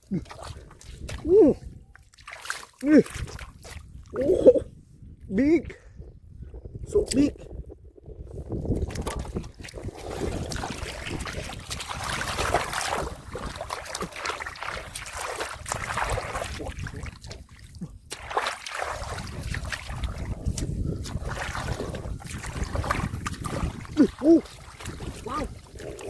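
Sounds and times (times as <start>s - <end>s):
muddy water sloshing and splashing: 0.0s - 26.0s.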